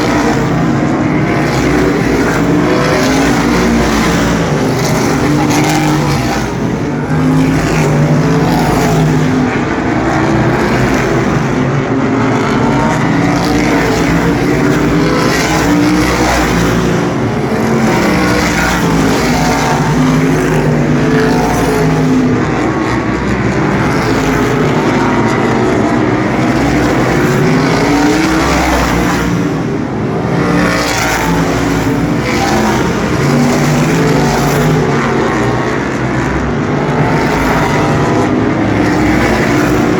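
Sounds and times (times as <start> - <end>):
racing car engines passing: 0.0 - 39.9.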